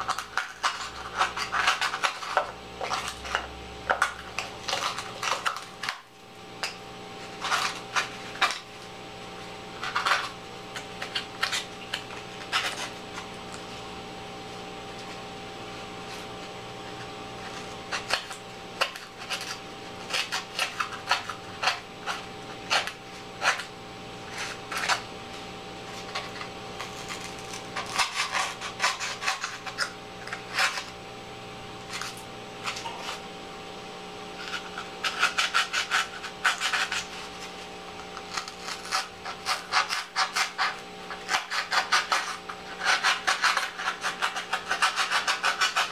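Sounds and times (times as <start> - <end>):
knife scratching foam board: 0.0 - 31.0, 31.8 - 33.3, 34.3 - 45.9.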